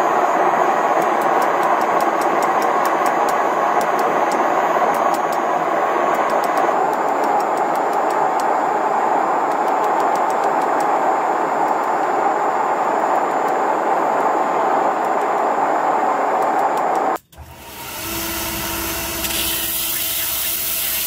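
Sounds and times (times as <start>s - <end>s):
loud steady rushing noise: 0.0s - 19.8s.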